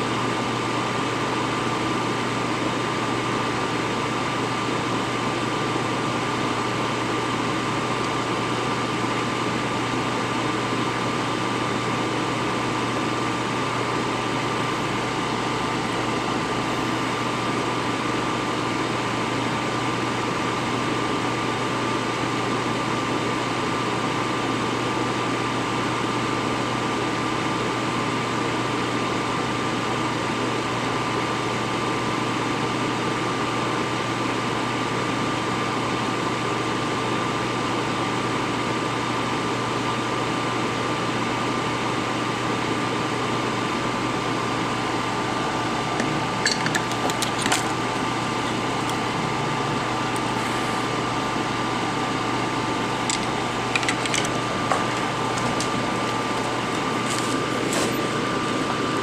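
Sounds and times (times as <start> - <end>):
fan whirring: 0.0 - 59.0.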